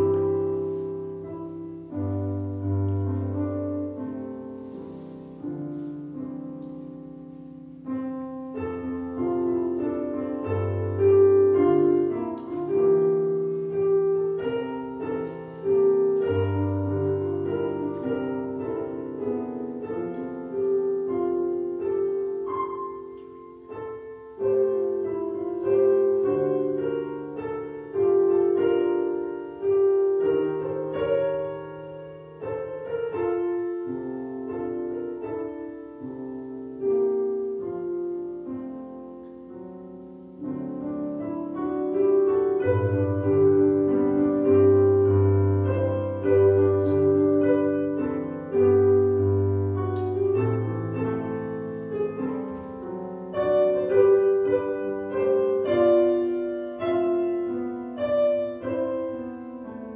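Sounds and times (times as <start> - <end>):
slow solo piano piece: 0.0 - 59.9.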